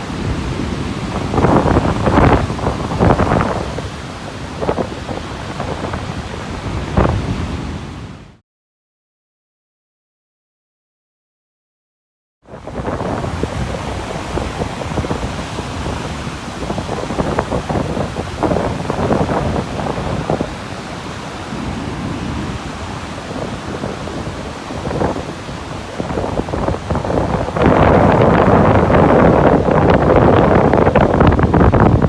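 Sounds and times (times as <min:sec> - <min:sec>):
wind buffeting microphone: 0:00.0 - 0:08.2, 0:12.5 - 0:32.0
sea waves washing onto beach: 0:00.0 - 0:08.3, 0:12.5 - 0:32.0.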